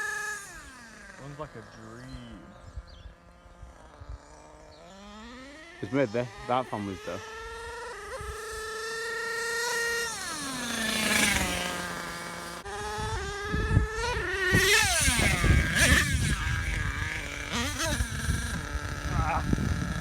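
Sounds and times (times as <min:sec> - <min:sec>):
rc truck nitro engine revving: 0:00.0 - 0:20.0.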